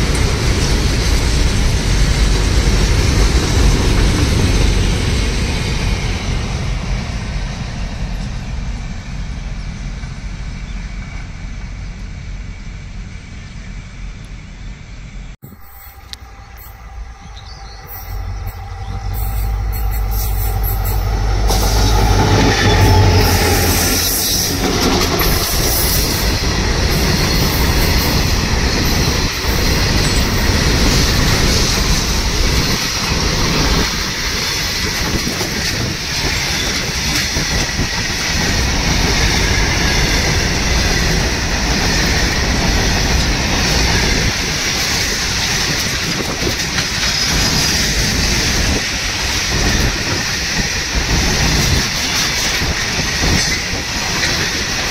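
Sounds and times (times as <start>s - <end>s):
train wheels rumbling and rattling: 0.0s - 54.9s.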